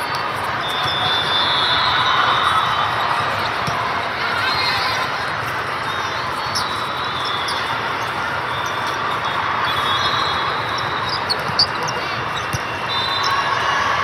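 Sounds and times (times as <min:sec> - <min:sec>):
sneakers squeaking on court: 0:00.0 - 0:01.6, 0:02.9 - 0:13.5
crowd murmur: 0:00.0 - 0:14.0.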